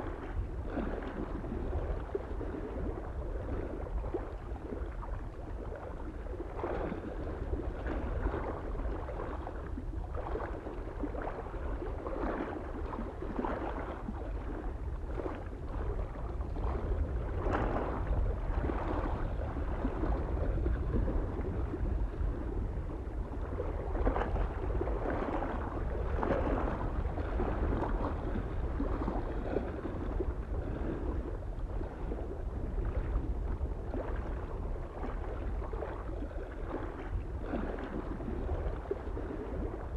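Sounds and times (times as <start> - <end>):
small waves lapping on shore: 0.0 - 39.9
wind rumble on microphone: 0.0 - 39.9.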